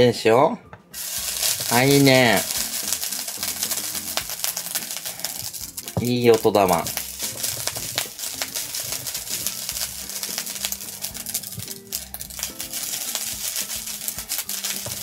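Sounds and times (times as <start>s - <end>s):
rice sizzling in skillet: 1.0s - 15.0s.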